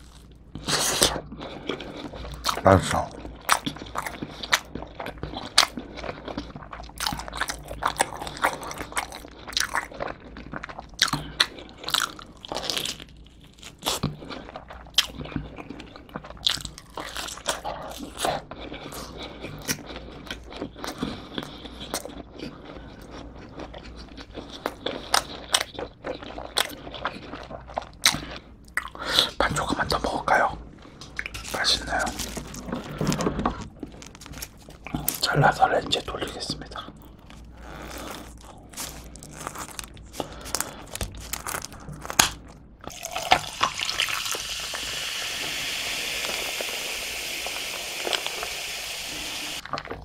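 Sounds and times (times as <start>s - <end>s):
chewing and biting pizza: 0.0s - 44.4s.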